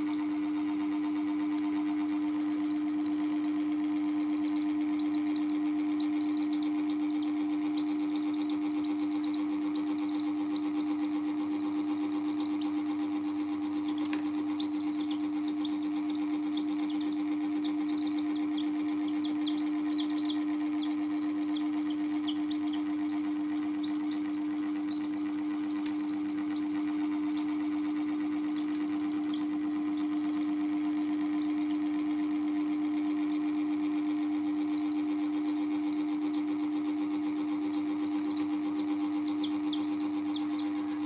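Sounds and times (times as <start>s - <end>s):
baby chicks peeping: 0.0s - 41.0s
low steady hum: 0.0s - 41.0s.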